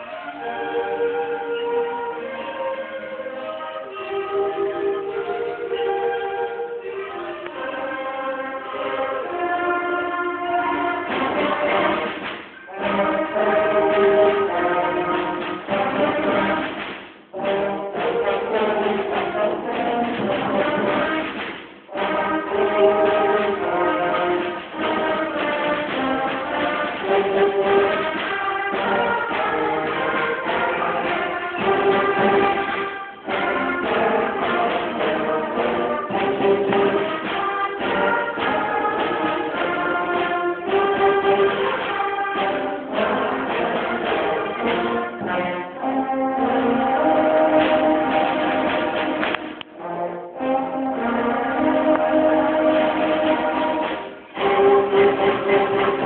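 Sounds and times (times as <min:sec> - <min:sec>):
concert band with brass: 0:00.0 - 0:56.0.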